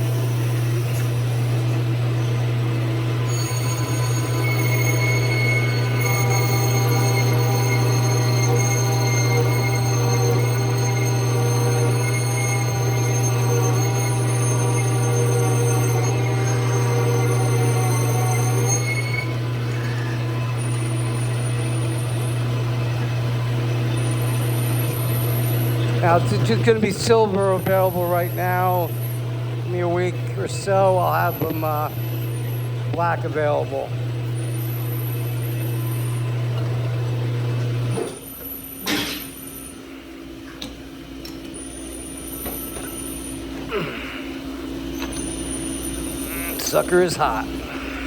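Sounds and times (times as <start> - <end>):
metal lathe humming: 0.0 - 40.0, 41.5 - 48.0.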